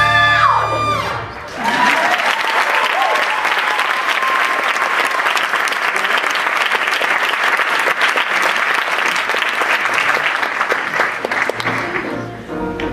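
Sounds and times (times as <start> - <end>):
audience applauding: 0.7 - 12.9.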